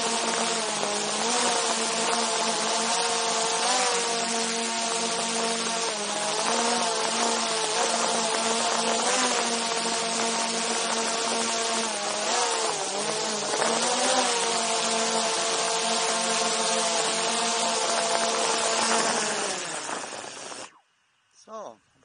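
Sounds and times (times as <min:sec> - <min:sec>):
drone propellers buzzing: 0:00.0 - 0:20.8.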